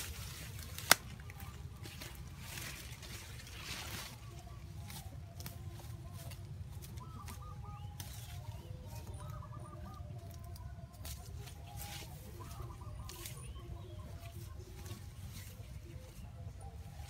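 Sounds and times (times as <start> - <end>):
bird clucking calls: 0.0 - 17.0.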